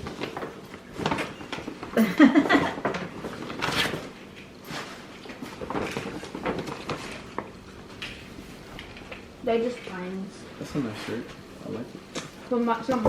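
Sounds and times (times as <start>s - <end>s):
gift packaging rustling: 0.0s - 13.0s.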